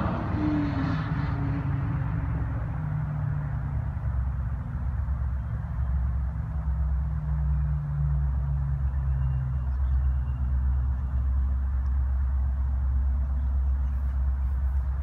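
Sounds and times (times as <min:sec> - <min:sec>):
motor vehicle engine running: 0:00.0 - 0:15.0.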